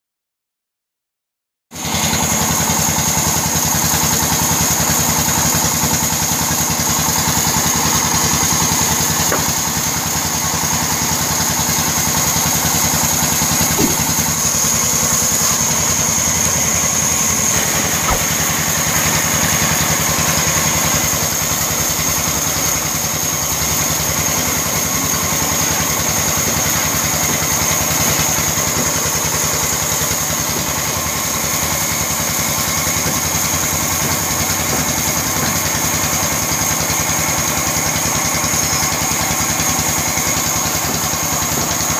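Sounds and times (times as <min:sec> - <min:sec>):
band saw cutting a log: 0:01.8 - 0:41.9.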